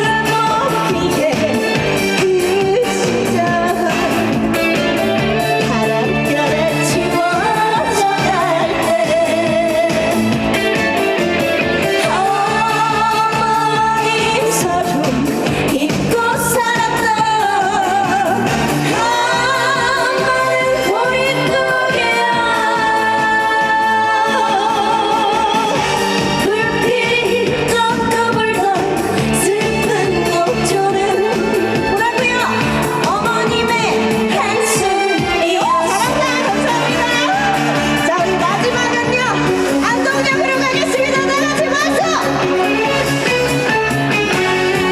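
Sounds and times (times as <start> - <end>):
woman singing with vibrato: 0.0 - 10.4, 11.8 - 42.8
pop backing music: 0.0 - 44.9.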